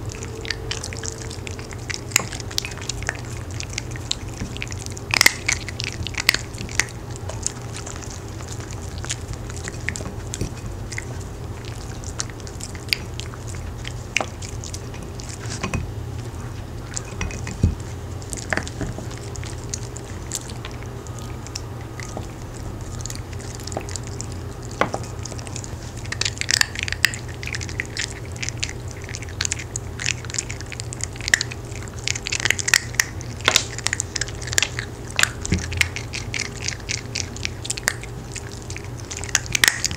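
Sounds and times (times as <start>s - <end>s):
dogs crunching hard cookies: 0.0s - 39.9s.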